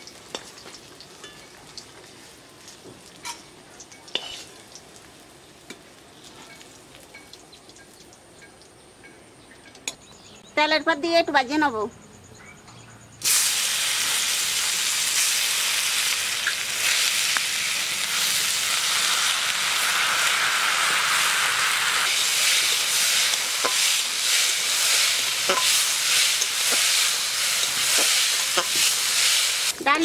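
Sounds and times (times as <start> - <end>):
lentils sizzling in hot oil: 0.0 - 8.0, 13.2 - 30.0.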